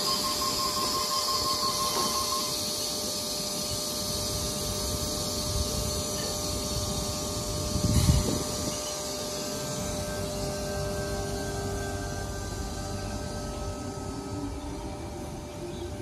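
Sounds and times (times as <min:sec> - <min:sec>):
train mechanical hum and hiss: 0:00.0 - 0:16.0.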